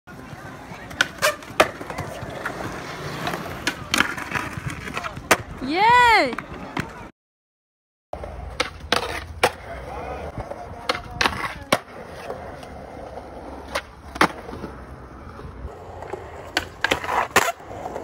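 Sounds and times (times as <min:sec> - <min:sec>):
skateboard clacking on ground: 0:00.1 - 0:07.1, 0:08.2 - 0:18.0
skateboard wheels rolling on concrete: 0:00.1 - 0:07.1, 0:08.2 - 0:18.0.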